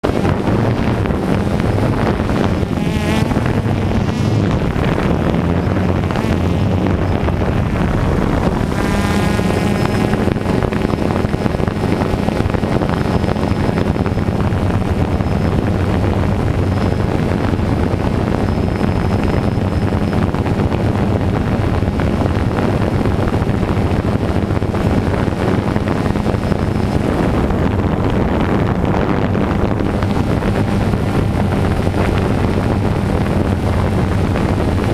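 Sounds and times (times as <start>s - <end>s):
drone propellers humming: 0.0s - 34.9s.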